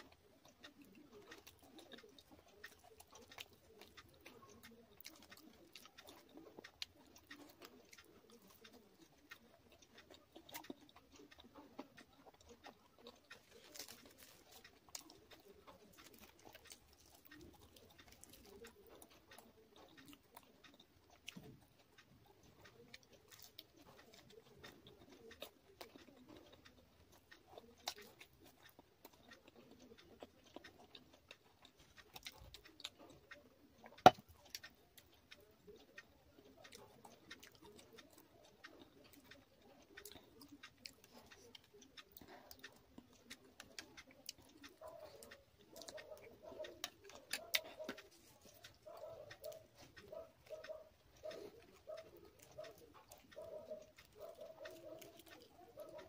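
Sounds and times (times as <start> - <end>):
close chewing of food: 0.0 - 56.0.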